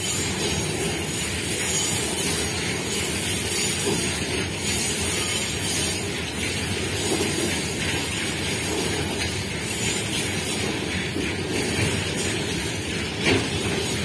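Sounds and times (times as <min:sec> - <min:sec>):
freight wagon wheels rumbling on track: 0:00.0 - 0:14.0.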